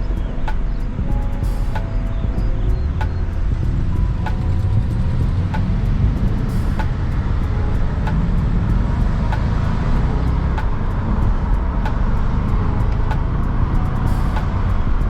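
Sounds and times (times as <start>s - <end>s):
low road and wind noise: 0.0s - 15.0s.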